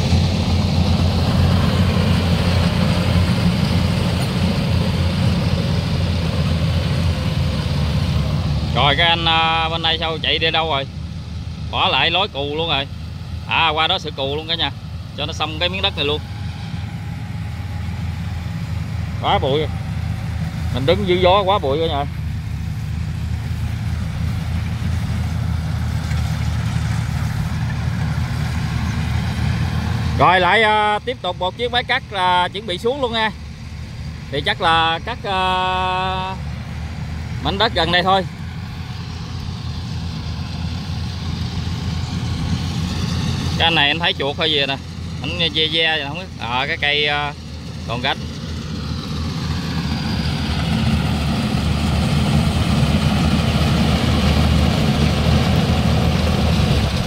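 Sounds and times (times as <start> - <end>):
combine harvester engine running: 0.0 - 57.0
rushing noise: 0.0 - 57.0.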